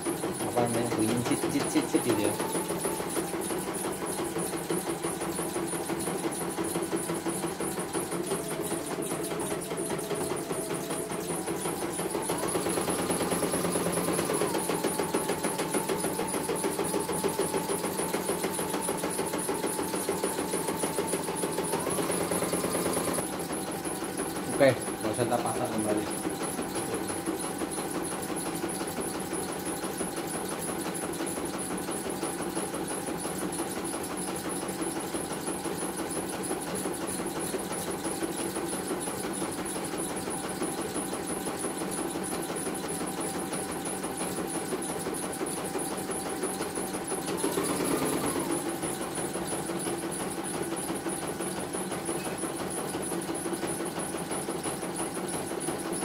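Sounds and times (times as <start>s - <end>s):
embroidery machine stitching: 0.0s - 56.0s.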